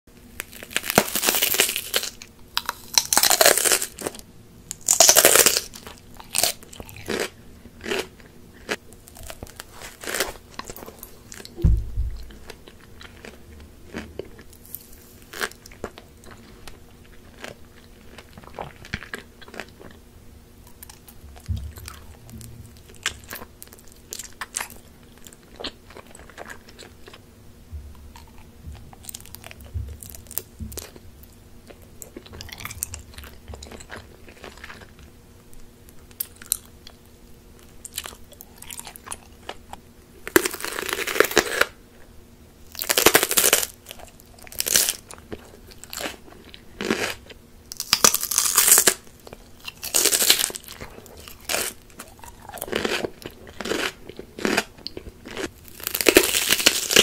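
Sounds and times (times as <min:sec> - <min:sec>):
crunchy bites: 0:00.4 - 0:20.0, 0:20.6 - 0:27.2, 0:27.9 - 0:35.0, 0:37.6 - 0:41.8, 0:42.7 - 0:57.0.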